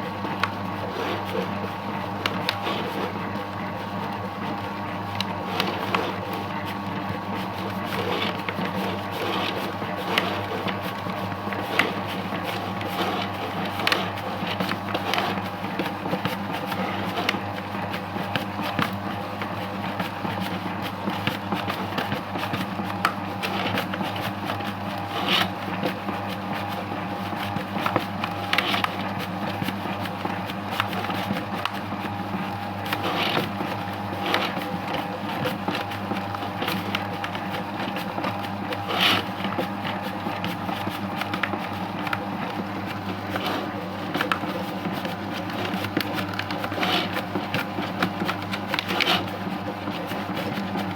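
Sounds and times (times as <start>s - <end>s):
dough mixer motor hum: 0.0s - 50.9s.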